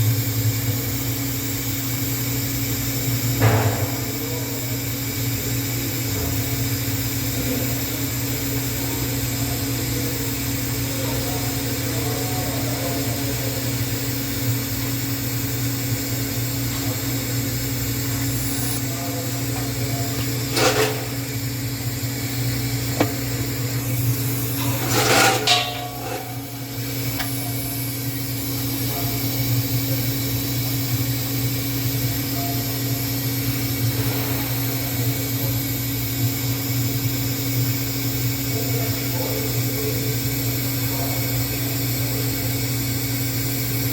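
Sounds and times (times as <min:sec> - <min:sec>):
welding arc humming: 0:00.0 - 0:43.9.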